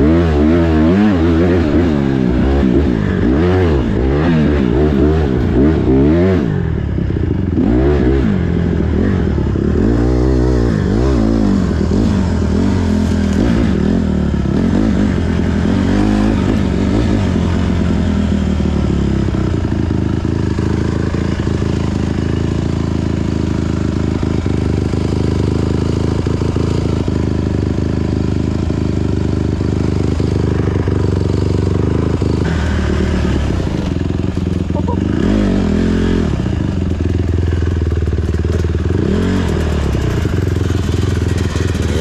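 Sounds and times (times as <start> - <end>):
dirt bike engine running: 0.0 - 42.0.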